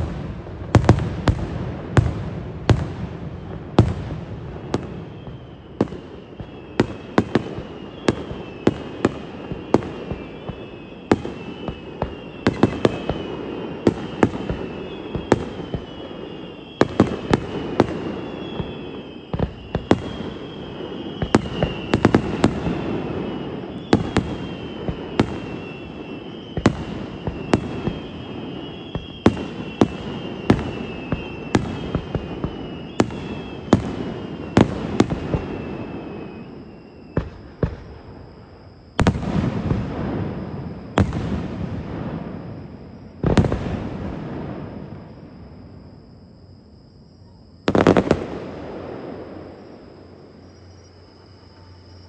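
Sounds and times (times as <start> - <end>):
fireworks bangs echoing: 0.0 - 38.3, 39.0 - 45.2, 47.7 - 49.6
faint falling whistle: 2.7 - 52.0.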